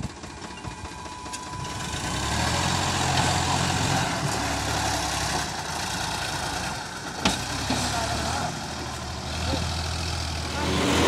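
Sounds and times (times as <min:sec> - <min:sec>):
tractor engine under load: 0:00.0 - 0:11.0.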